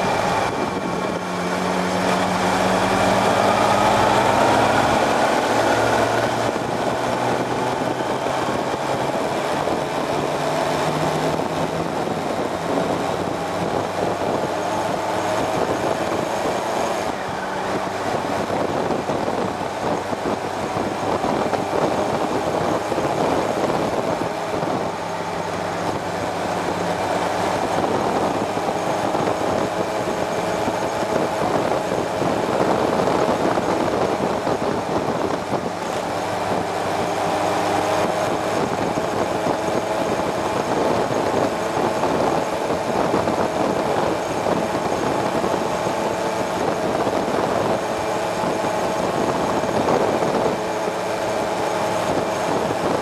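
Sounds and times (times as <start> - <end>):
motorcycle engine accelerating: 0.0 - 53.0
road noise: 0.0 - 53.0
wind rushing: 0.0 - 53.0.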